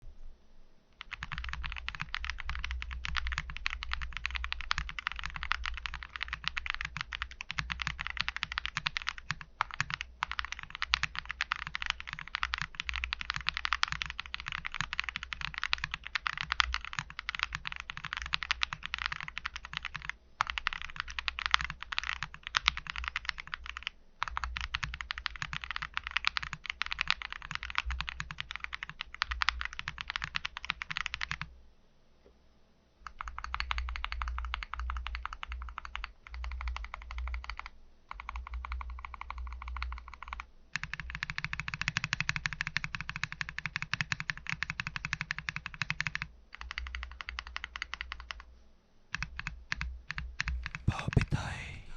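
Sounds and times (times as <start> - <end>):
fast mechanical keyboard typing: 1.0 - 31.5, 33.1 - 48.5, 49.1 - 50.8.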